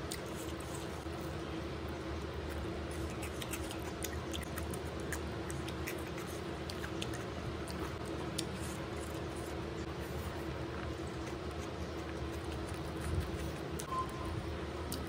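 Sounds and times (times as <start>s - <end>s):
chewing with mouth full: 0.0s - 15.0s
steady hum: 0.0s - 15.0s.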